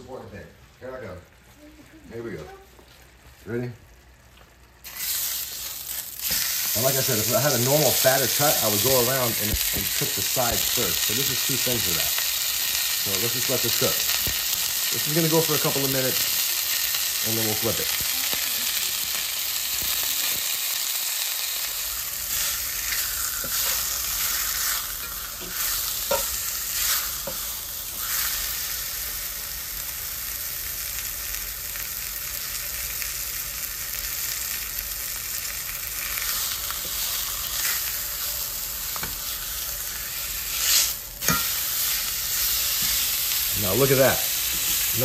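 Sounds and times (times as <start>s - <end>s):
steak sizzling in oil: 4.8s - 45.0s.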